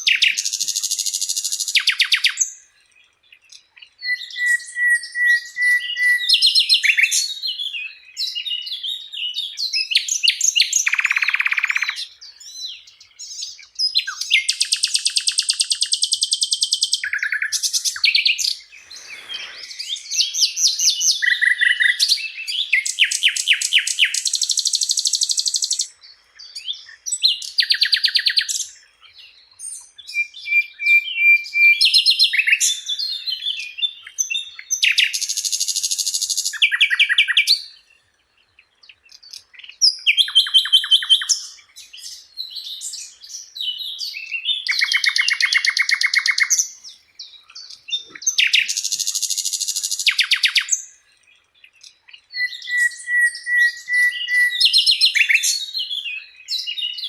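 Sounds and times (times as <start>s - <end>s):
flycatcher singing trills: 0.0s - 38.0s, 38.8s - 57.0s.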